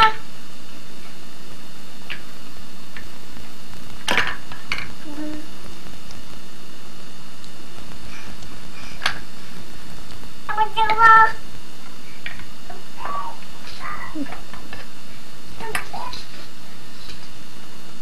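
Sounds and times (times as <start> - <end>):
camcorder hiss and hum: 0.0 - 18.0.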